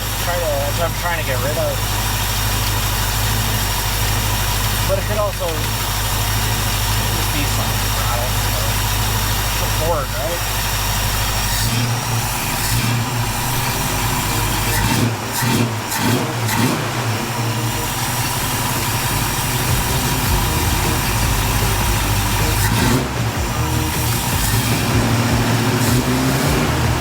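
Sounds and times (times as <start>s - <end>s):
car engine idling: 0.0s - 27.0s
engine knock: 0.0s - 27.0s.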